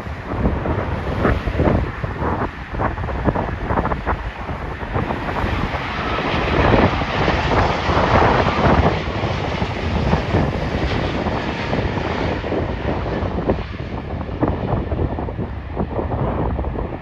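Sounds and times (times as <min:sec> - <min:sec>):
jet airliner engines passing: 0:00.0 - 0:17.0
wind buffeting microphone: 0:00.0 - 0:17.0.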